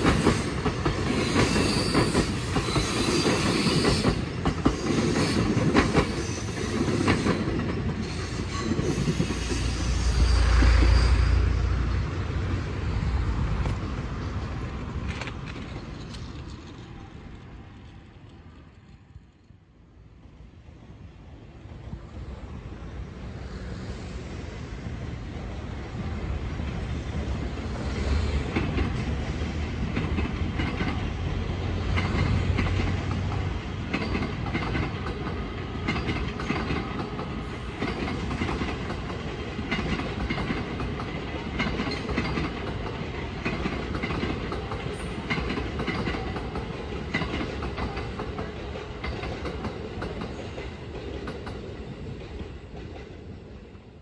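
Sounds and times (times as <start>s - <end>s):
train wheels clacking over rails: 0.0s - 19.0s, 26.6s - 54.0s.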